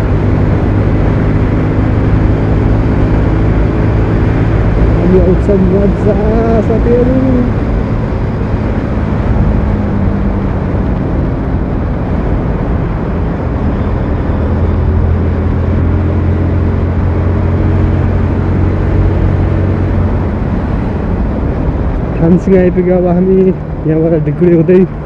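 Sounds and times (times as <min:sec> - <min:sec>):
motorcycle engine running: 0:00.0 - 0:23.8
wind and road noise: 0:00.0 - 0:25.0.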